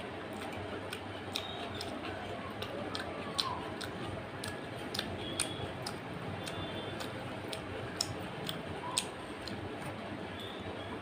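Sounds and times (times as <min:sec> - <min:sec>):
chewing mouth sounds: 0:00.0 - 0:10.0.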